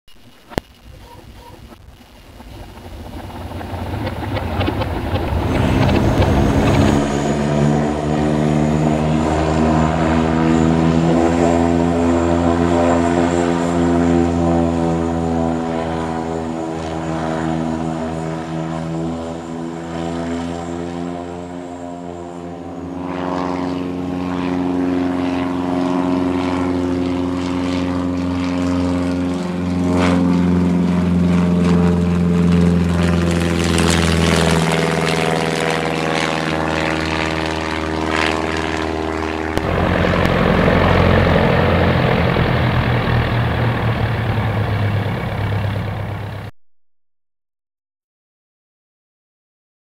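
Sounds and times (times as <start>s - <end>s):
propeller aircraft engine: 0.1s - 46.6s.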